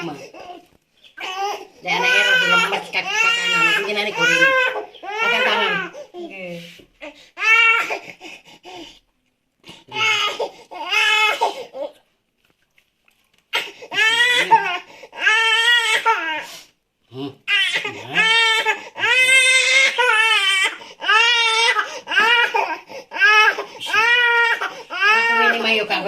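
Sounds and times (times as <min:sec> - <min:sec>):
baby crying: 0:00.0 - 0:06.3, 0:07.0 - 0:08.8, 0:09.9 - 0:12.0, 0:13.5 - 0:16.4, 0:17.5 - 0:26.0.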